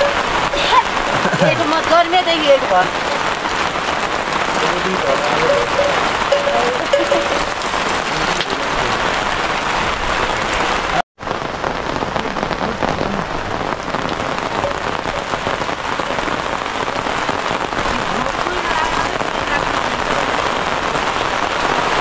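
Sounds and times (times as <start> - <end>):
rain on plastic tarpaulin: 0.0 - 22.0.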